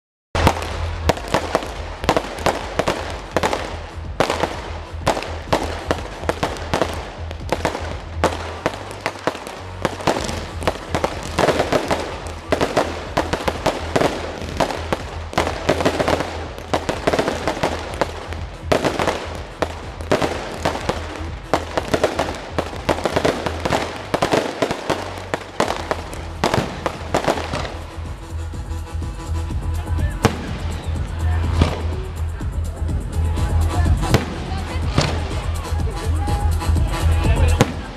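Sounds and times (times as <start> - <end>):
fireworks bursting and crackling: 0.4 - 37.9
music playing: 0.4 - 37.9.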